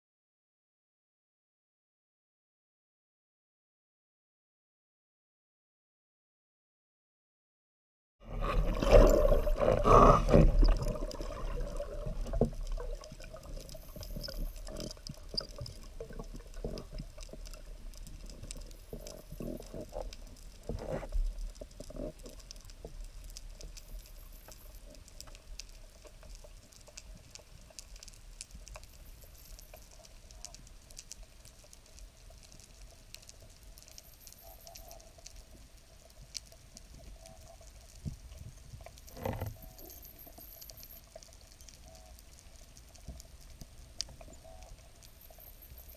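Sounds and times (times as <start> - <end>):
underwater crackling and clicks: 8.2 - 45.9
water swishes: 8.2 - 45.9.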